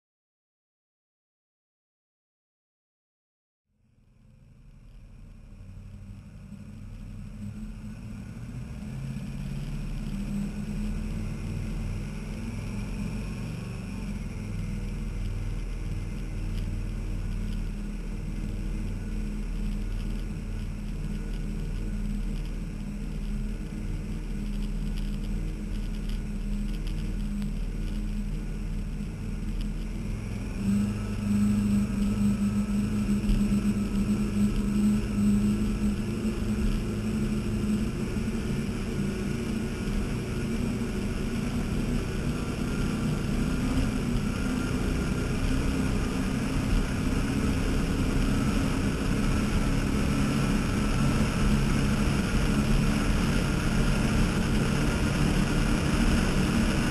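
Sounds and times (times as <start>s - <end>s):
boat engines droning: 5.1s - 56.9s.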